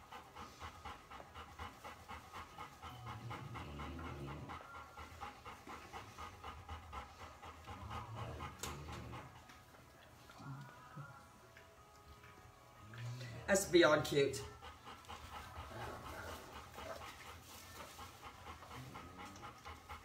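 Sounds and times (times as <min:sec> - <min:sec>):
puppy panting: 0:00.0 - 0:20.0.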